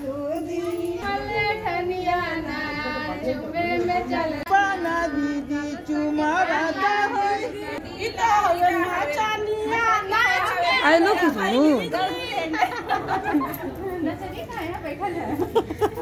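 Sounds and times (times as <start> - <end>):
women singing unaccompanied: 0.0 - 12.8.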